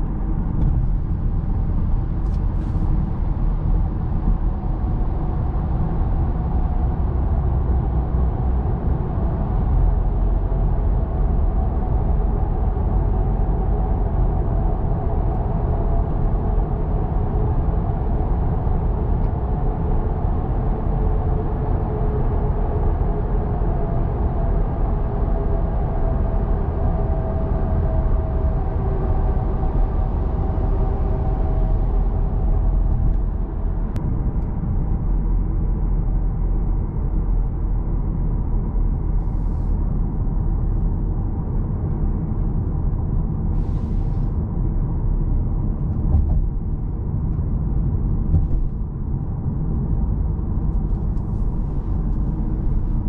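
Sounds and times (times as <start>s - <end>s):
car engine hum: 0.0s - 53.0s
road and tyre rumble: 0.0s - 53.0s.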